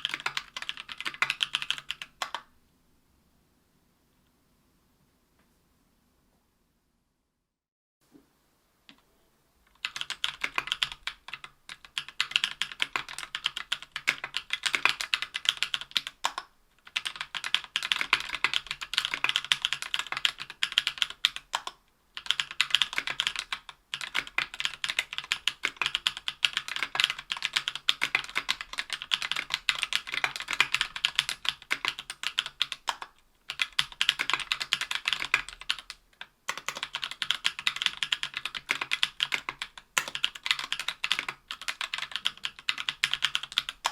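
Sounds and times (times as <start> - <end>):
mechanical keyboard typing: 0.0 - 2.5, 9.8 - 43.9.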